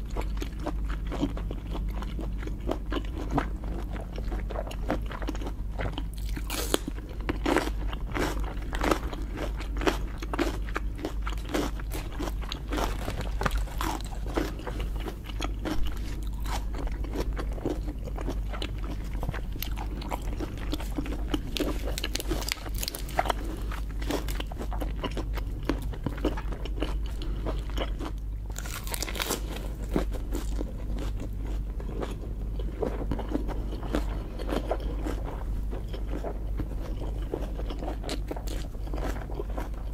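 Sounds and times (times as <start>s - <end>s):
chewing and crunching lobster: 0.0s - 39.9s
steady low hum: 0.0s - 39.9s.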